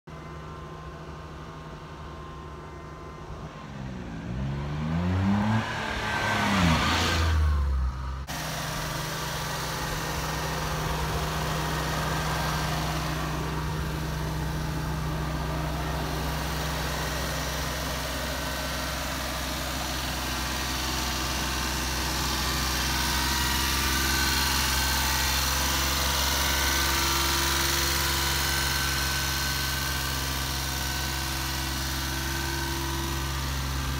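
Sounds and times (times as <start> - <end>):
truck engine running: 0.1 - 33.9.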